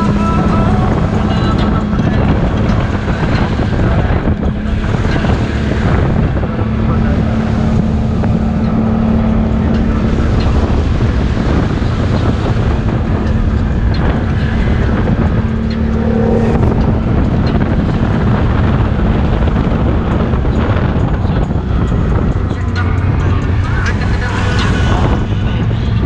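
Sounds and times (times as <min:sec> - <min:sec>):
atv engine running: 0:00.0 - 0:26.0
wind noise on microphone: 0:00.0 - 0:26.0.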